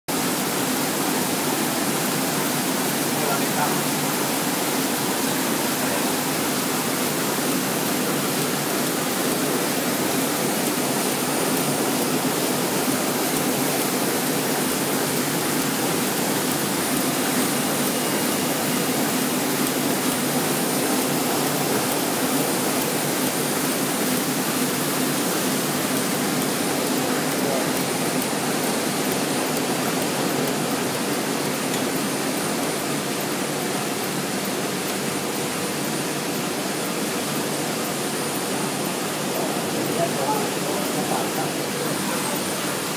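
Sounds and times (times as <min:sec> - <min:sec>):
printing press roar: 0:00.1 - 0:42.9.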